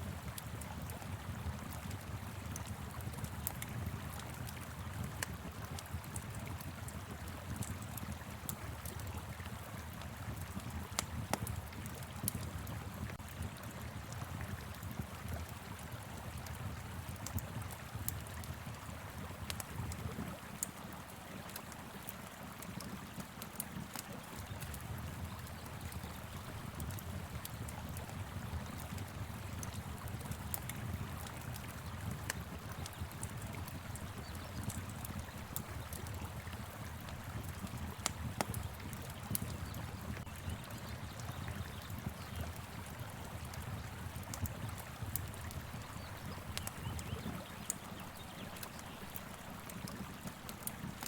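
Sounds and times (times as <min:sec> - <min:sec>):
wood fire crackling: 0:00.2 - 0:51.0.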